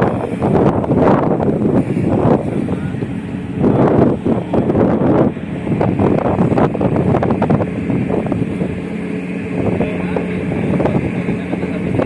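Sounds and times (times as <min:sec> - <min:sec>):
tugboat engine running: 0:00.0 - 0:12.0
wind gusting on microphone: 0:00.0 - 0:12.0.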